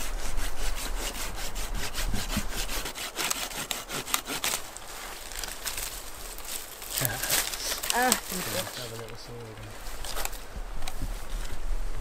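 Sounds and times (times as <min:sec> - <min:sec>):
hand saw cutting branch: 0:00.0 - 0:10.4.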